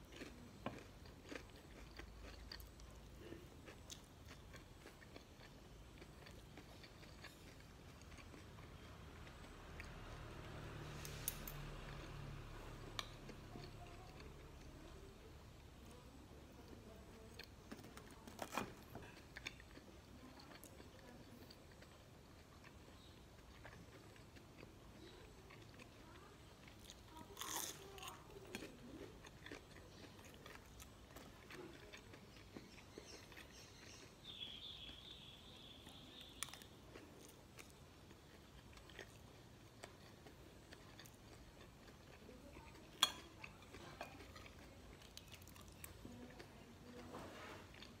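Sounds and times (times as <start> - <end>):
faint chewing: 0.0 - 48.0.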